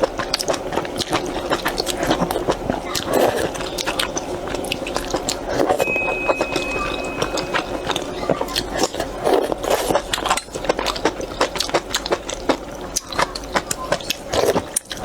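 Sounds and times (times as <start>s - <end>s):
chewing and slurping noodles: 0.0s - 5.8s, 8.5s - 15.0s.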